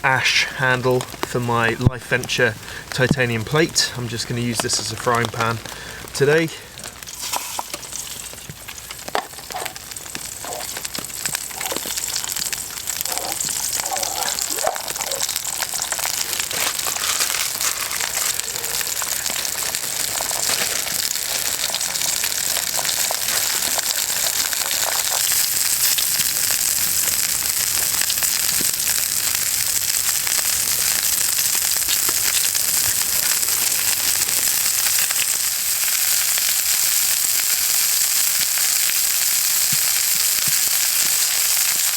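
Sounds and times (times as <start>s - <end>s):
food sizzling on a plate: 3.6s - 41.9s.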